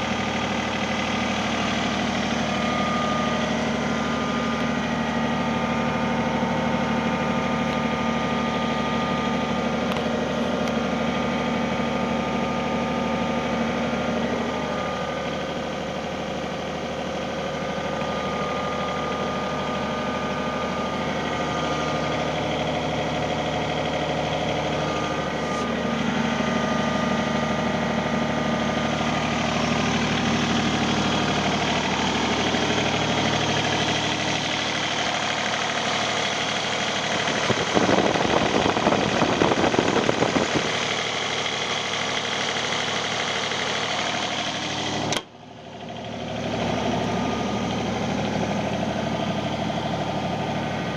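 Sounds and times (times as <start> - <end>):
diesel engine running: 0.0 - 50.9
rapid engine clattering: 0.0 - 50.9.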